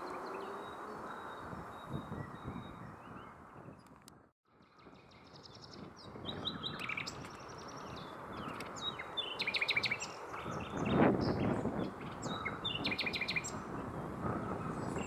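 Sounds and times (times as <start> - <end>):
nightingale singing: 0.0 - 3.9, 4.6 - 15.0.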